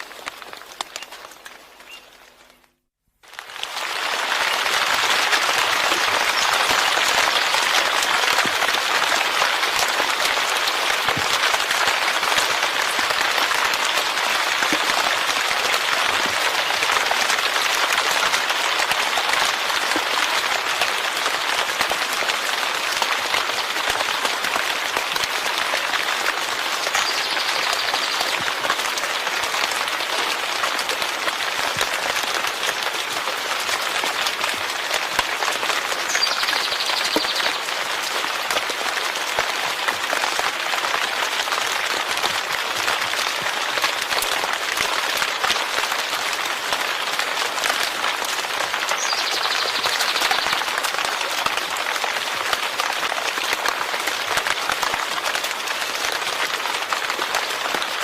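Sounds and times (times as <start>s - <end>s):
heavy rain patter: 0.0s - 2.6s, 3.2s - 58.0s.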